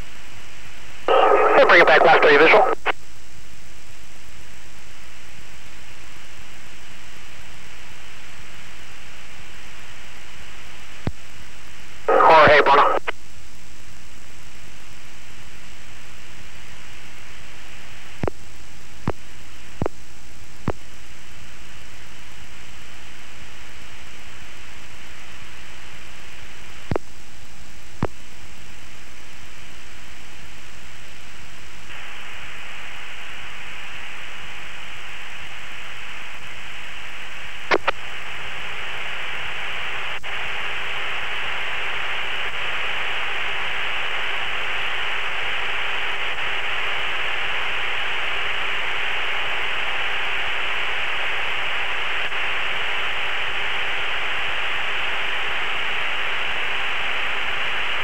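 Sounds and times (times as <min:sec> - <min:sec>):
faint steady hum: 0:00.0 - 0:58.0
radio static hiss: 0:00.0 - 0:58.0.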